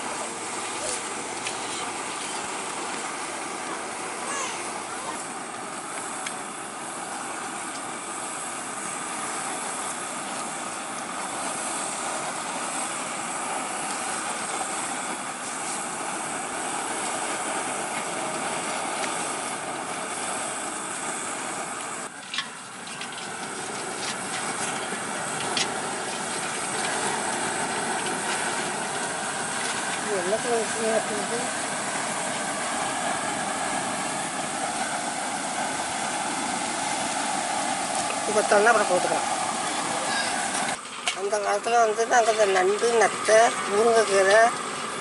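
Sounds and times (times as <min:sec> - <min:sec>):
gas burner hissing: 0:00.0 - 0:45.0.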